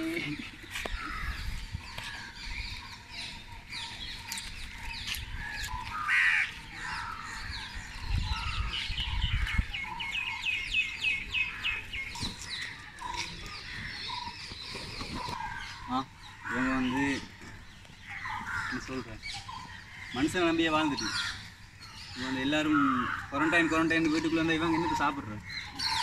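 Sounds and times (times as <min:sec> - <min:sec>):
small birds chirping: 0:00.0 - 0:26.0
crows calling: 0:00.1 - 0:26.0.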